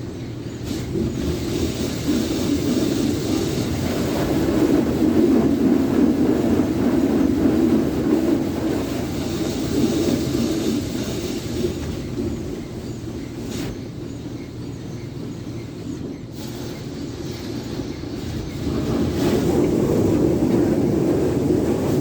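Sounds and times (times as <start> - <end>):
automatic car wash running: 0.0 - 22.0.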